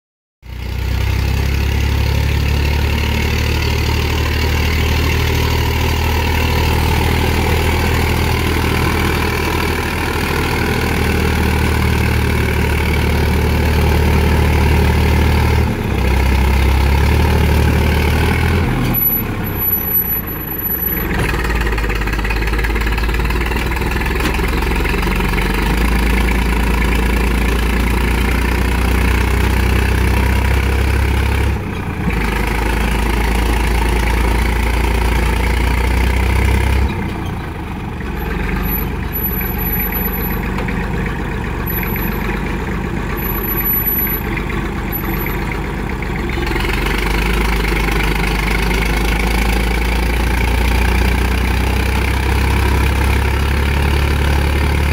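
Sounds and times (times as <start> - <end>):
tractor diesel engine running: 0.4 - 54.9.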